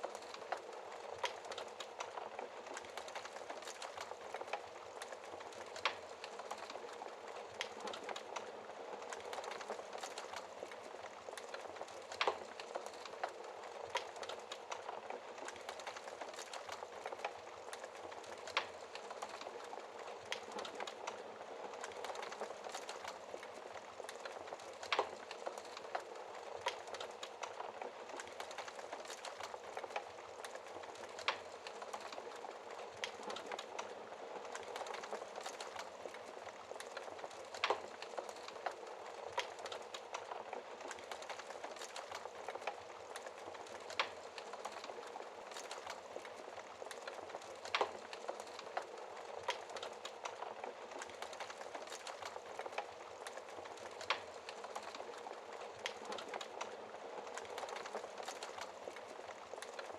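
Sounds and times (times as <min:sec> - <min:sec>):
fire pops and snaps: 0:00.0 - 0:59.9
wood fire crackling: 0:00.0 - 0:59.9.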